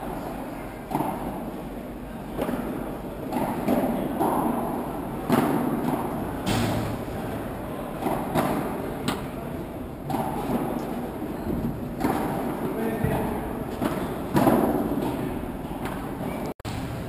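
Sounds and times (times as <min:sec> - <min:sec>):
murmur of voices: 0:00.0 - 0:16.5.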